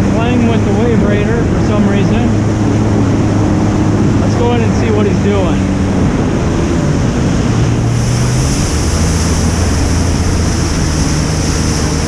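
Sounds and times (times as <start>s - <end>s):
jet ski engine running: 0.0s - 12.0s
water rushing against hull: 0.0s - 12.0s
wind buffeting microphone: 0.0s - 12.0s.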